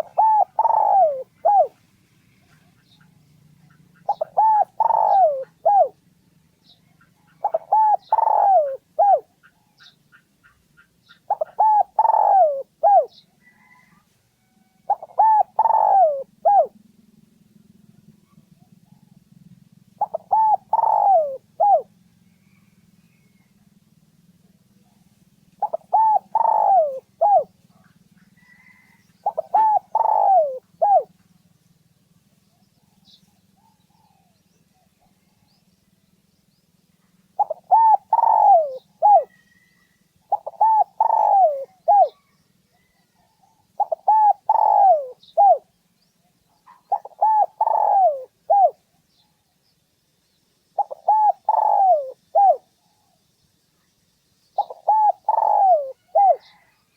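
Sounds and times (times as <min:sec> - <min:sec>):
dove cooing: 0:00.0 - 0:01.8, 0:02.5 - 0:14.0, 0:14.6 - 0:16.9, 0:17.8 - 0:23.6, 0:24.8 - 0:31.2, 0:32.5 - 0:35.6, 0:37.3 - 0:49.4, 0:50.8 - 0:53.2, 0:54.6 - 0:56.8.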